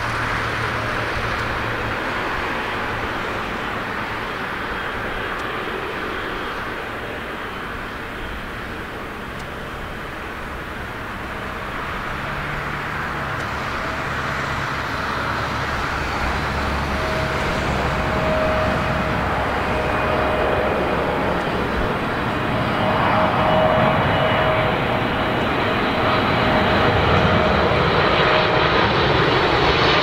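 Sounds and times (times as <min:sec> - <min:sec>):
jet airliner engine noise: 0:00.0 - 0:30.0
thin steady whine: 0:00.1 - 0:28.2.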